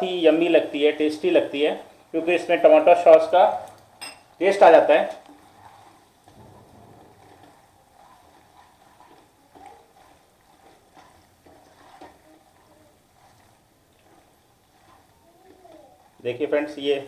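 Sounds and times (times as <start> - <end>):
spoon stirring food: 3.1 - 17.0.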